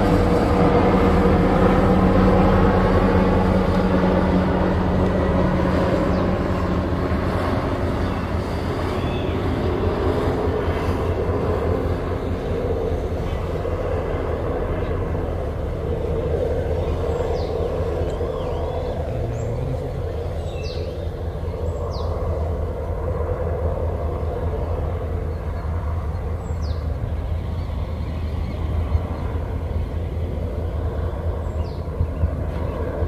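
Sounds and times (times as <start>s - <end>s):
motorboat engine droning: 0.0s - 33.0s.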